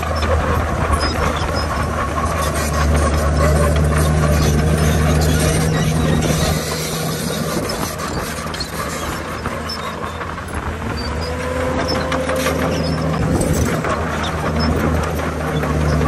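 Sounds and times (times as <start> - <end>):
heavy diesel machinery running: 0.0 - 16.0
thin rising squeal: 1.1 - 16.0.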